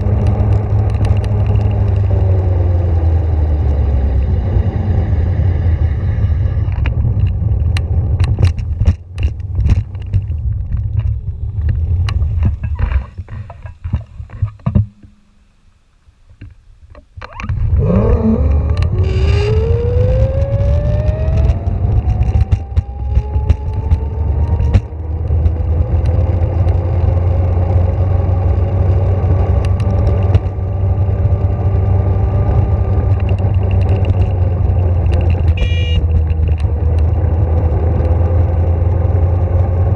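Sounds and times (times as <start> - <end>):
vehicle rumble and knocks: 0.0 - 15.4, 16.3 - 39.9.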